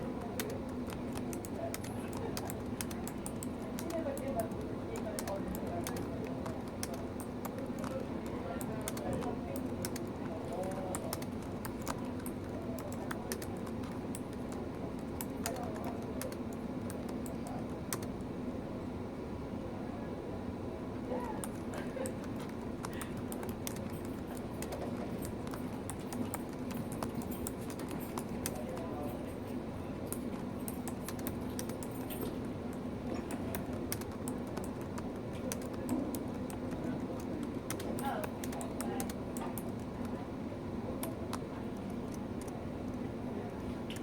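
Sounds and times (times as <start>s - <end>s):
low background hum: 0.0s - 44.0s
laptop keyboard typing: 0.1s - 18.2s, 21.4s - 40.2s, 41.0s - 43.0s.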